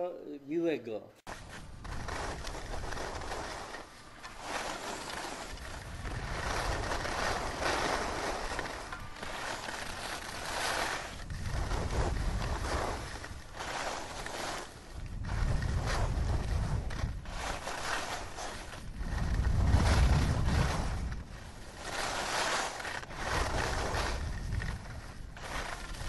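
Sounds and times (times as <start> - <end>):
skis swishing over snow: 1.3 - 26.0.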